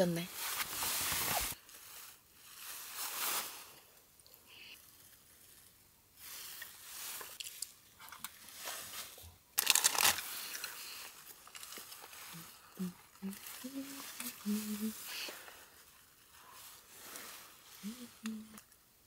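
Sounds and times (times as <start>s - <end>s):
rustling and crinkling handling: 0.1s - 3.9s, 4.8s - 17.8s.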